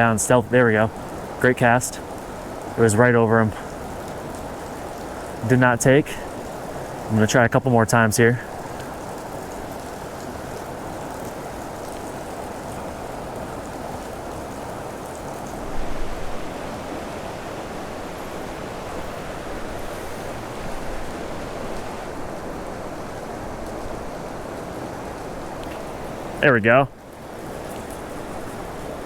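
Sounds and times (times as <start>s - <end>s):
stream flowing: 0.0s - 29.0s.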